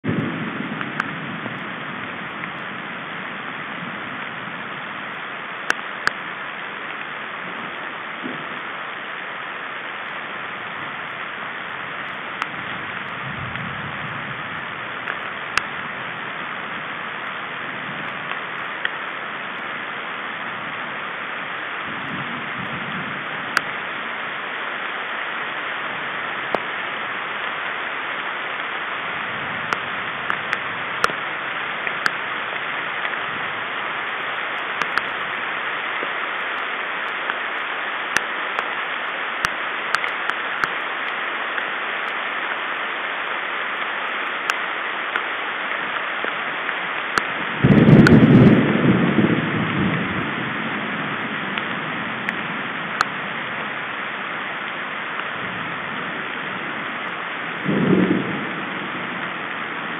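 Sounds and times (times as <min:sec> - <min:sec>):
rain hiss: 0:00.0 - 0:59.9
raindrops tapping near microphone: 0:00.0 - 0:59.9.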